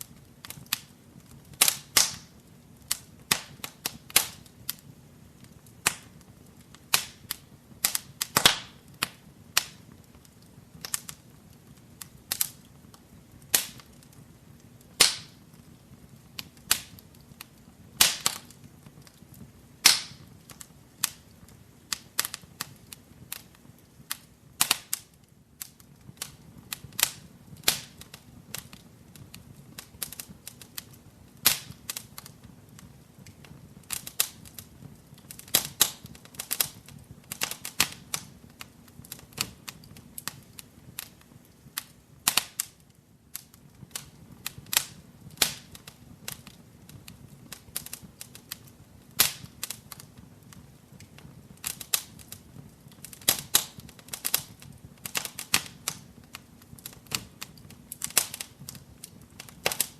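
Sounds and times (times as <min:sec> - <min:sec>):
faint hiss of burning: 0:00.0 - 0:59.9
wood fire crackling and popping: 0:00.0 - 0:59.9.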